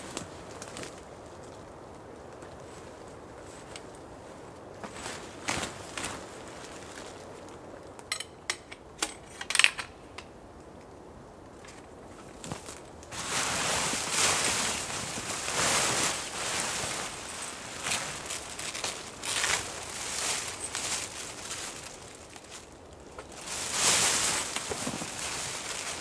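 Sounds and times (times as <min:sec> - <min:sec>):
tent fabric rustling and crinkling: 0:00.0 - 0:08.0, 0:11.6 - 0:26.0.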